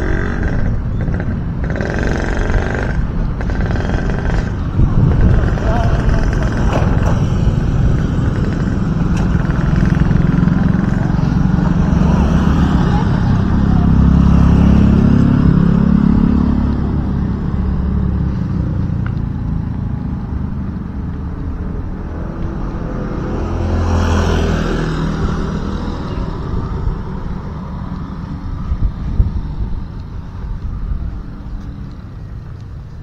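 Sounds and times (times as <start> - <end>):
low engine drone: 0.0 - 33.0
motor scooters passing: 0.0 - 33.0.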